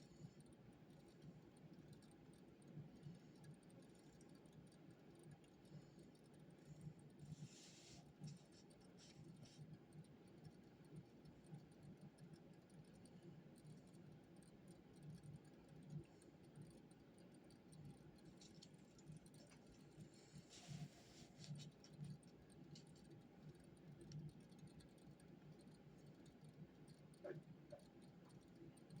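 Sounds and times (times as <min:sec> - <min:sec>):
light clicks and scratches: 0:00.0 - 0:29.0.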